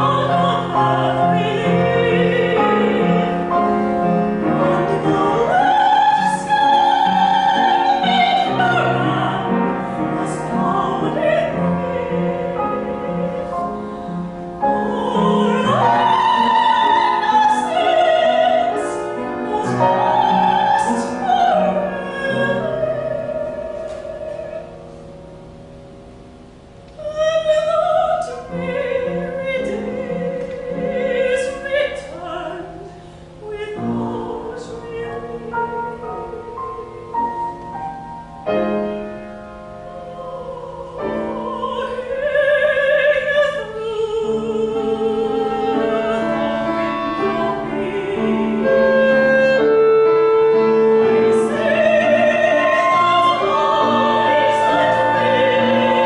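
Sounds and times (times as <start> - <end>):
soprano singing opera: 0.0 - 24.9, 26.9 - 56.0
piano accompaniment: 0.0 - 56.0.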